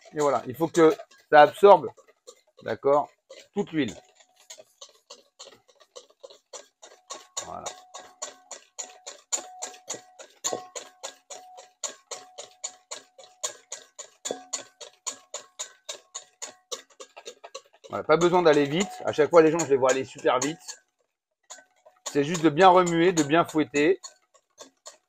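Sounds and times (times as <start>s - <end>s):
whisk tapping a bowl: 0.0s - 25.0s.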